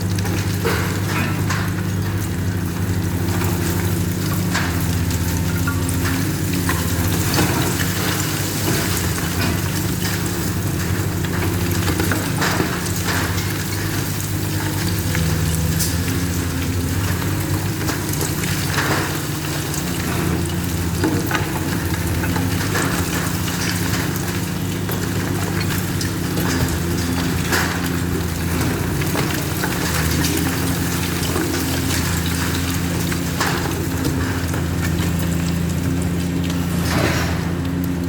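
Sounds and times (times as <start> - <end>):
crackling crunching debris: 0.0 - 38.0
heavy machine engine running: 0.0 - 38.0.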